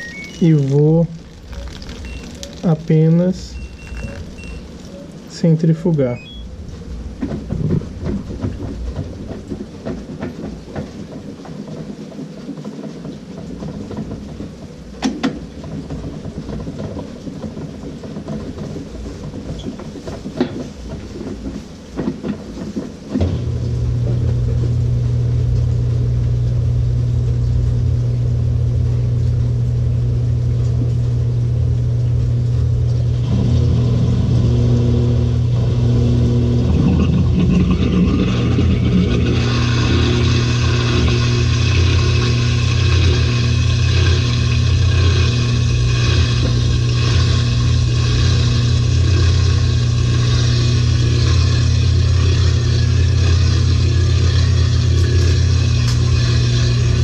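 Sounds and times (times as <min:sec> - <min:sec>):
washing machine motor hum: 0:00.0 - 0:57.0
washing machine watery noise: 0:00.0 - 0:57.0.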